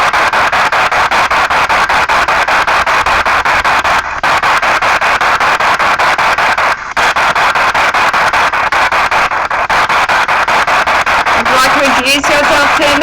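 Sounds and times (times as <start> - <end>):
choppy radio static hiss: 0.0 - 13.0.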